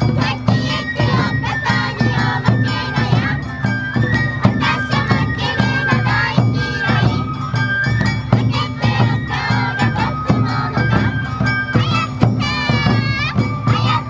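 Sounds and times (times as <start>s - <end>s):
bamboo flutes: 0.0s - 14.0s
taiko drums: 0.0s - 14.0s.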